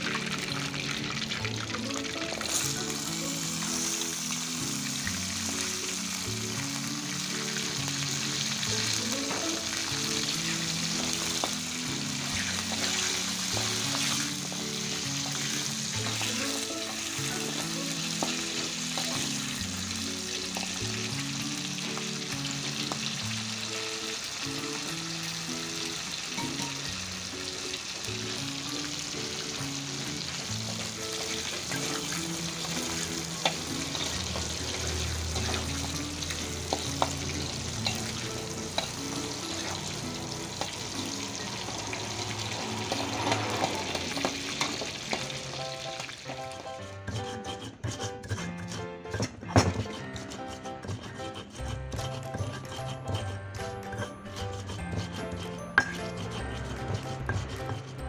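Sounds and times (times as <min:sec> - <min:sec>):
food sizzling in hot oil: 0:00.0 - 0:58.0
metal spatula scraping a wok: 0:02.4 - 0:23.6, 0:28.3 - 0:45.8, 0:46.4 - 0:58.0.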